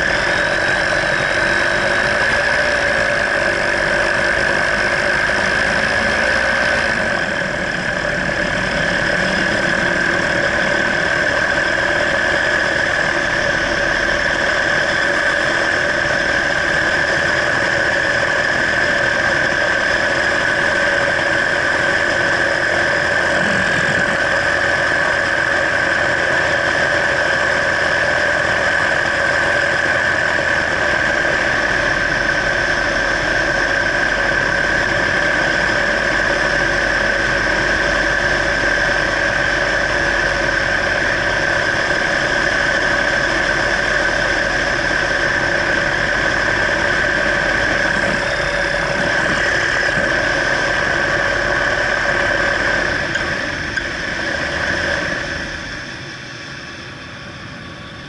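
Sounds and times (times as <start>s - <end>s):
paramotor engine drone: 0.0s - 58.0s.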